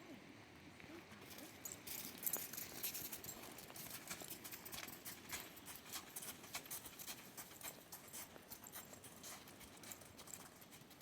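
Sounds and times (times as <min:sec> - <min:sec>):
horse hooves clip-clopping: 0:00.8 - 0:11.0.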